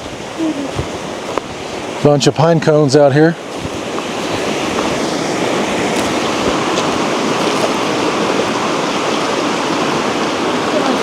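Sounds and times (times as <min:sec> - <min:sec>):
fast river rushing: 0:00.0 - 0:11.0.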